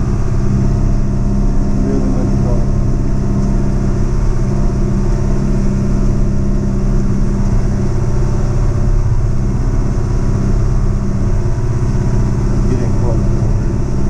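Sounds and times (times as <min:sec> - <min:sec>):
diesel engine under load: 0:00.0 - 0:14.0.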